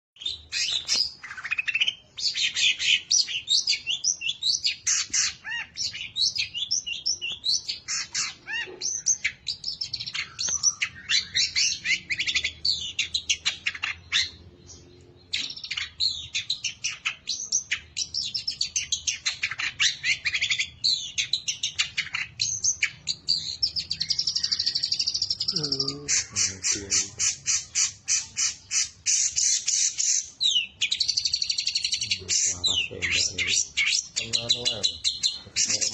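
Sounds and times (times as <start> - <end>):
bird singing: 0.2 - 35.9.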